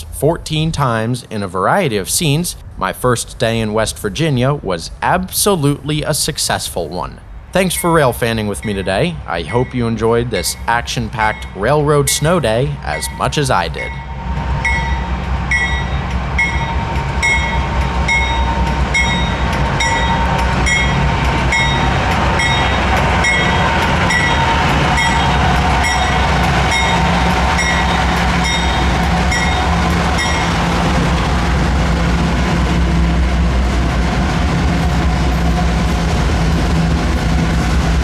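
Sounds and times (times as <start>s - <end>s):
crossing bell ringing: 0.0s - 38.0s
freight train rumbling past: 0.0s - 38.0s.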